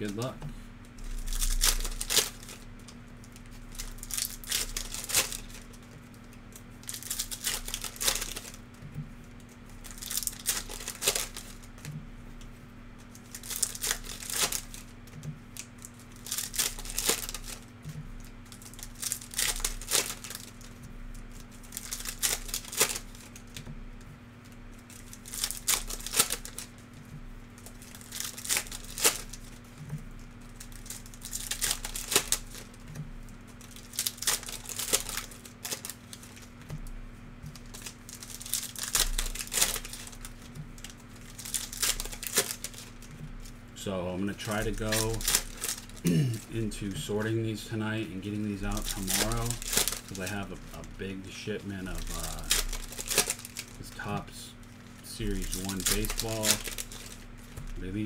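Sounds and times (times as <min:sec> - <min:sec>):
card wrappers crinkling and tearing: 0:00.0 - 0:23.7, 0:24.4 - 0:58.0
low electrical hum: 0:00.0 - 0:58.0.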